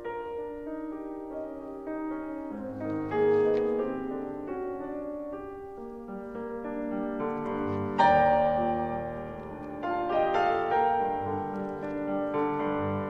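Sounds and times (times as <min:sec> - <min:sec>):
solo classical piano piece: 0:00.0 - 0:13.0.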